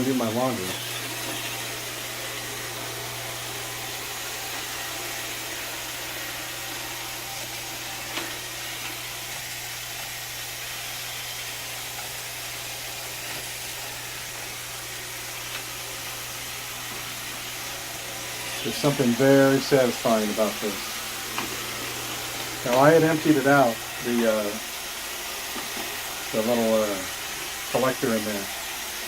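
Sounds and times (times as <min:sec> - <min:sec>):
robot vacuum running: 0:00.0 - 0:29.0.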